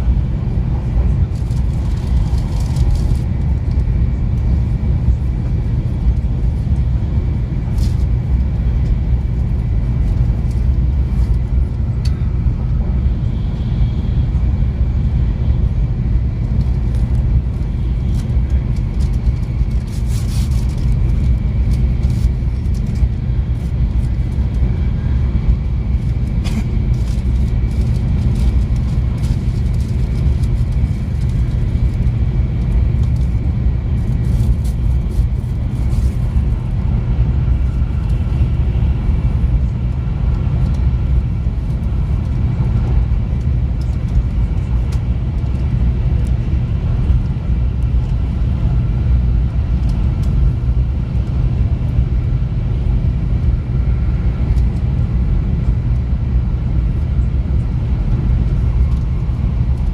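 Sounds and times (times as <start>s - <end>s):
loud low rumble: 0.0s - 52.4s.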